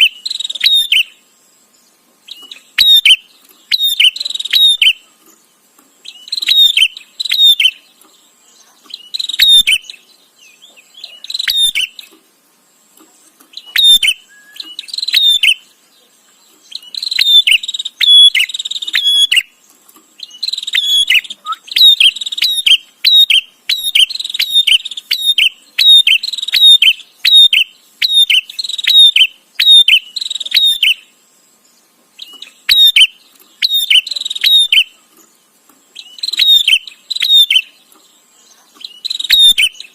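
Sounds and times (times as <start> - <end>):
bird chattering: 0.0 - 1.2, 2.3 - 5.1, 6.0 - 8.0, 8.6 - 12.2, 13.5 - 15.8, 16.4 - 19.5, 20.2 - 31.1, 32.2 - 35.1, 35.9 - 39.9.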